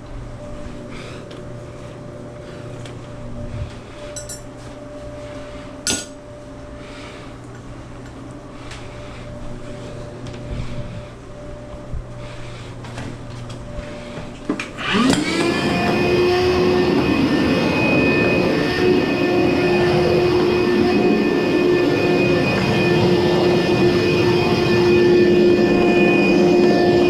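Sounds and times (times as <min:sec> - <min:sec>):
dryer motor whine and hum: 0:00.0 - 0:27.0
low hum: 0:00.0 - 0:27.0.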